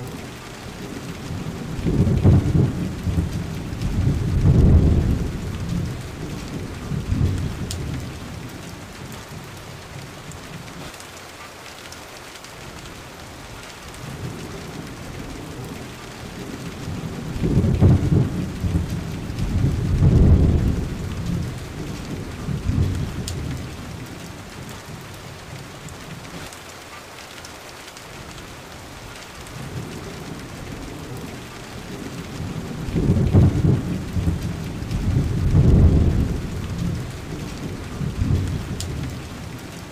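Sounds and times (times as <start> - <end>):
rolling thunder: 0.0 - 9.6, 14.0 - 26.4, 29.6 - 39.9
steady rain falling: 0.0 - 39.9.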